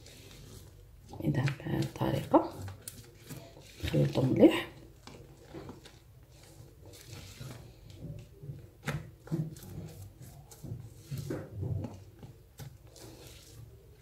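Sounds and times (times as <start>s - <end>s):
spoon stirring mousse: 0.0s - 14.0s.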